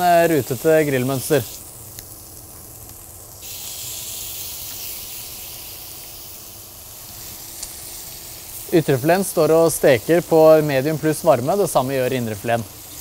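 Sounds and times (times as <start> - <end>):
meat sizzling in a grill pan: 0.0 - 13.0.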